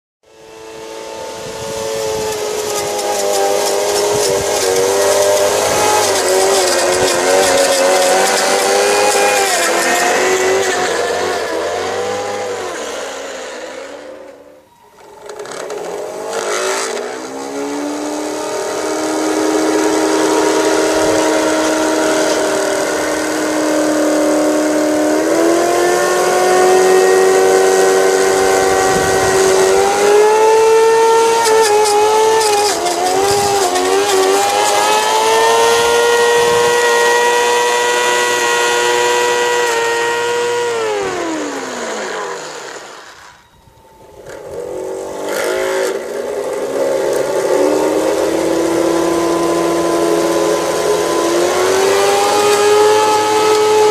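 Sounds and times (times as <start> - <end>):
electric motor whine: 0.2 - 53.9.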